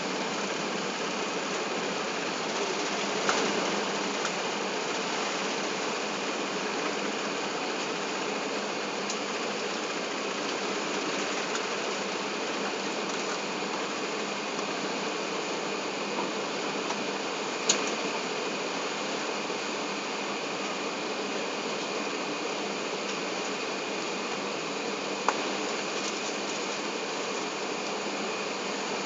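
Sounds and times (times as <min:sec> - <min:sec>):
aircraft cabin engine noise: 0:00.0 - 0:29.0.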